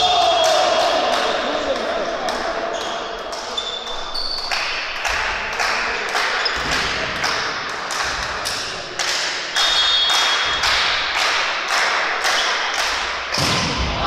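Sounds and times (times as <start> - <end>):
crowd noise: 0.0 - 14.0.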